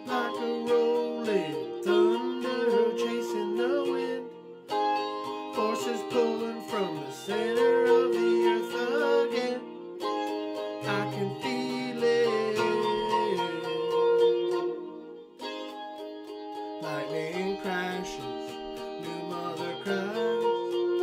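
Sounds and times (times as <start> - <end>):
electric guitar chords: 0.0 - 21.0.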